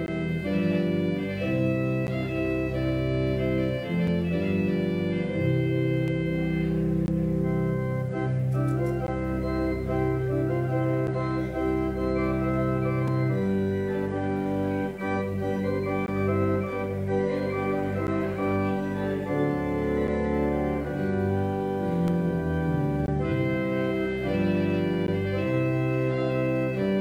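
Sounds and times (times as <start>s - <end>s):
church organ chords: 0.0s - 27.0s.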